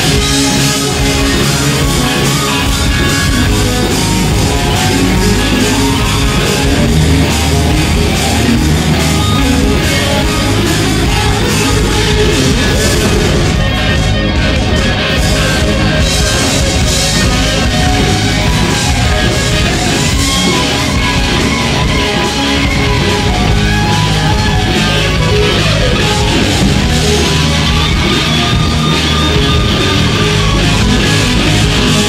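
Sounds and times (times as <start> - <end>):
bass guitar: 0.0 - 32.0
distorted electric guitars: 0.0 - 32.0
drum kit: 0.0 - 32.0.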